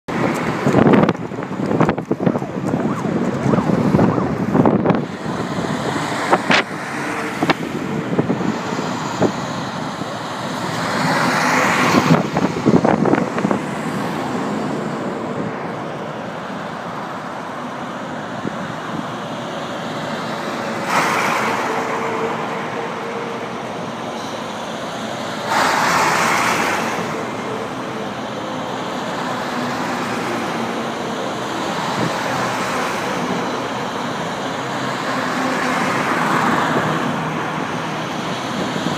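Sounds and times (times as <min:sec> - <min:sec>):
road traffic passing: 0:00.1 - 0:38.9.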